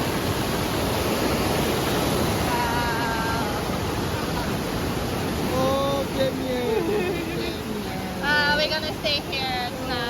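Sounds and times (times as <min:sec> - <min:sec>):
river water rushing: 0:00.0 - 0:10.0
wind: 0:00.0 - 0:10.0.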